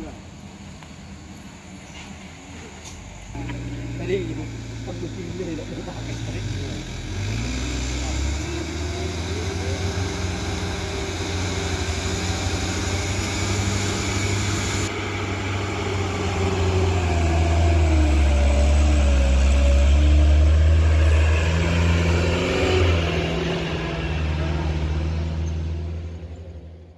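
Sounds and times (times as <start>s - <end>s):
truck diesel engine running: 0.0s - 26.9s.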